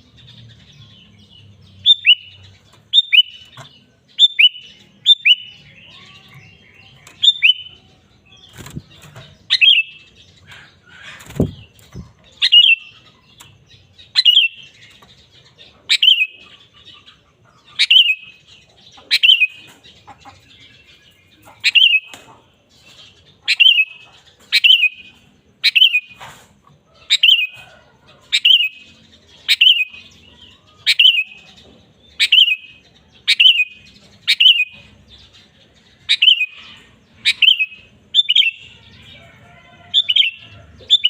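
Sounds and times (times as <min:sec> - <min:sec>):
bulbul singing sharp calls: 0:00.0 - 0:26.4, 0:27.0 - 0:39.2.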